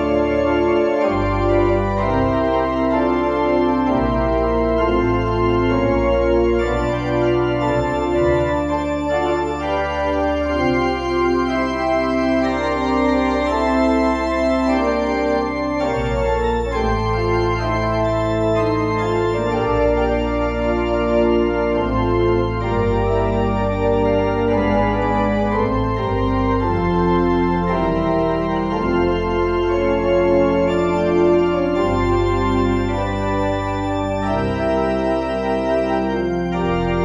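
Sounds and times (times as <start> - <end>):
organ playing sustained chords: 0.0 - 37.0.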